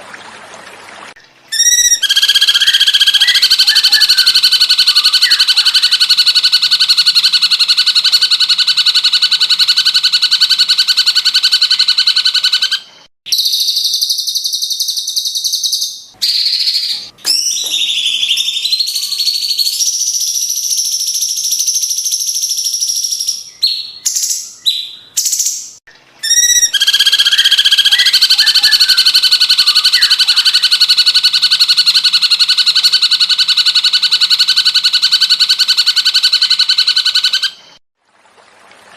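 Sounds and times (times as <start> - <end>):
bird whistled phrases: 1.5 - 37.8.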